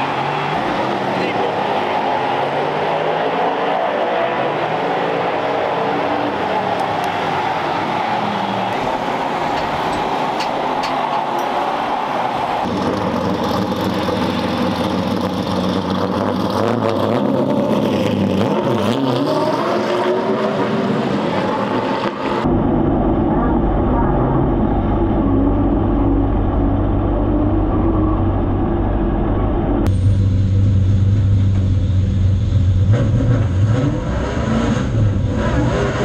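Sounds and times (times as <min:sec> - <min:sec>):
car engine rumbling: 0:00.0 - 0:36.0.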